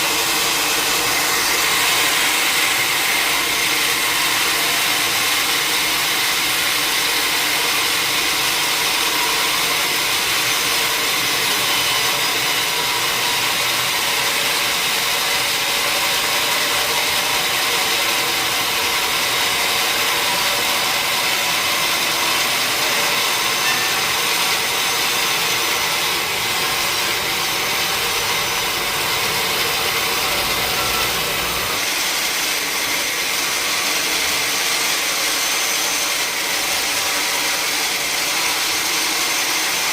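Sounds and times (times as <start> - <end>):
sawmill saw machinery running: 0.0 - 39.9.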